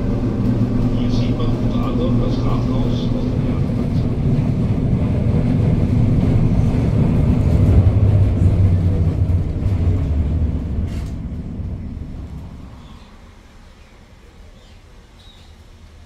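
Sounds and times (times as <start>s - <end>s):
tram motors and wheels rumbling: 0.0s - 16.0s.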